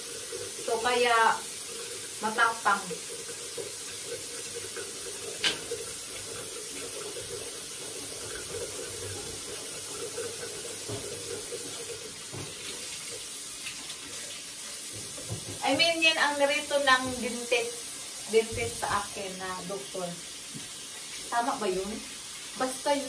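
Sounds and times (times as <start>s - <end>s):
faucet running into sink: 0.0s - 23.0s.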